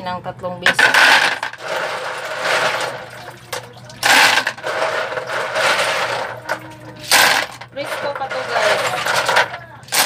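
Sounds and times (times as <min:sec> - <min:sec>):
shells clattering in water: 0:00.7 - 0:10.0.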